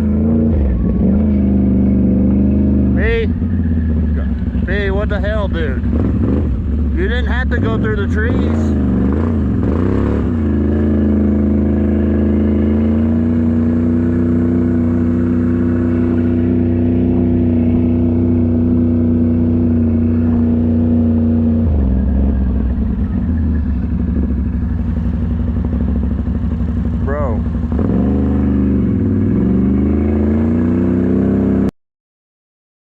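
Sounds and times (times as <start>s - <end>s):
truck engine at high revs: 0.0s - 31.7s.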